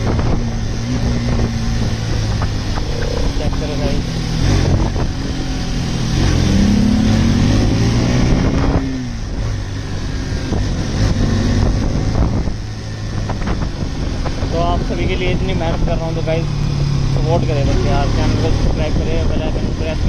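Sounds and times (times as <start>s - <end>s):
motorcycle engine accelerating: 0.0s - 20.0s
wind and road noise: 0.0s - 20.0s.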